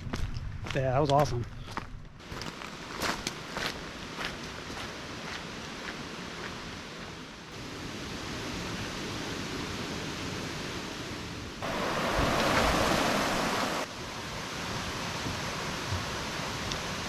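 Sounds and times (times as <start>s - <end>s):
stream running over rocks: 2.2s - 17.0s.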